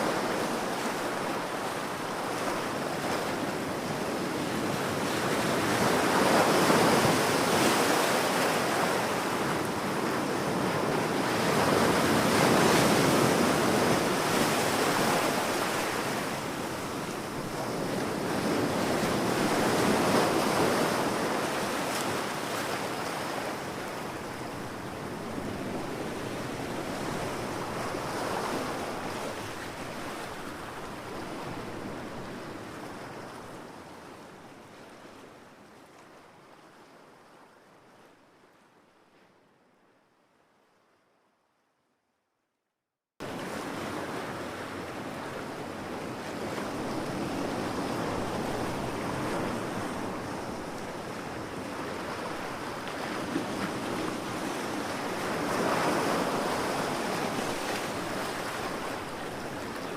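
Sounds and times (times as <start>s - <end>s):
ocean waves breaking on beach: 0.0s - 36.4s, 43.2s - 59.9s.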